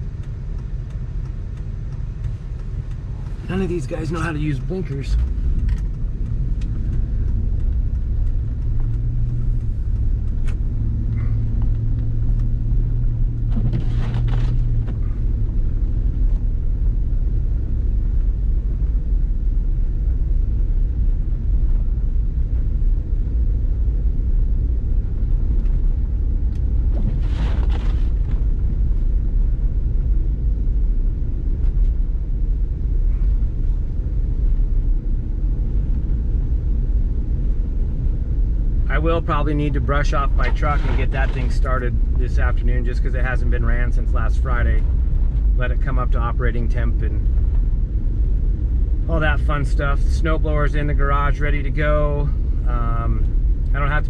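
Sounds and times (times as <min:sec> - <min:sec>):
vehicle engine and tyre rumble: 0:00.0 - 0:54.0.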